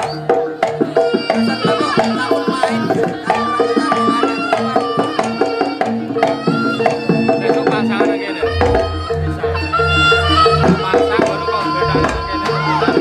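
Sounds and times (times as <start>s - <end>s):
gamelan: 0.0s - 13.0s
hand drums playing fast pattern: 0.0s - 13.0s
held melody line: 0.0s - 13.0s.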